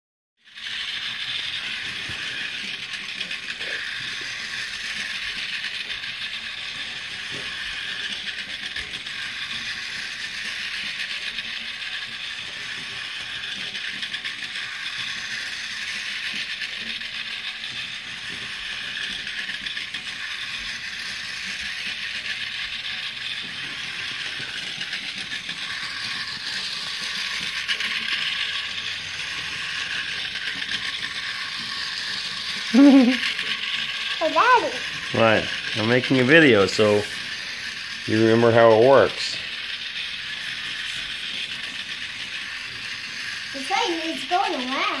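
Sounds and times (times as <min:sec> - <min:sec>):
toy train motor whirring: 0:00.4 - 0:45.0.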